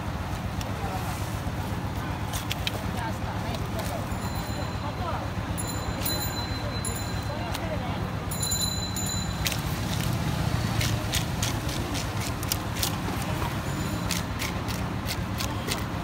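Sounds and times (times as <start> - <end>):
low street traffic rumble: 0.0 - 16.0.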